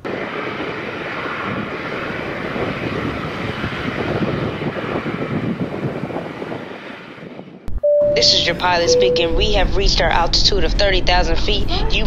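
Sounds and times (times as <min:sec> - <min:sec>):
jet airliner taking off: 0:00.0 - 0:12.0.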